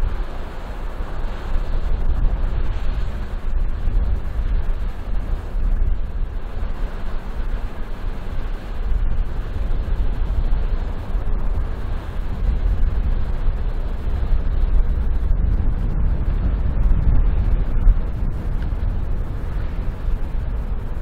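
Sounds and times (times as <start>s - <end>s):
passing ship bow wash: 0.0s - 21.0s
wind buffeting microphone: 0.0s - 21.0s.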